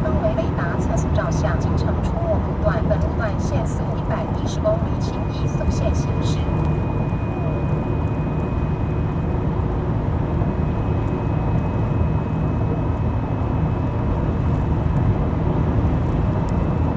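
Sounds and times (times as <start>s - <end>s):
faint high-pitched whine: 0.0s - 14.8s
vehicle engine rumble: 0.0s - 16.9s.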